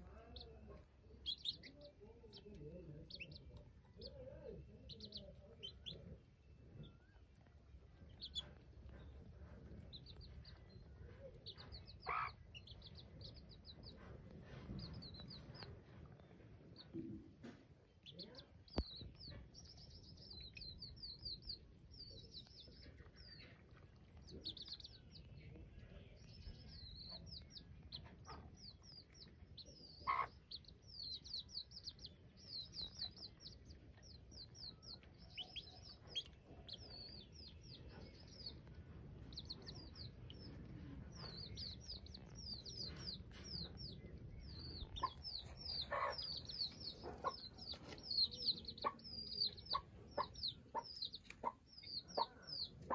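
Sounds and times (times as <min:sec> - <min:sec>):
chicks peeping: 0:00.0 - 0:52.9
hen clucking: 0:00.0 - 0:52.9.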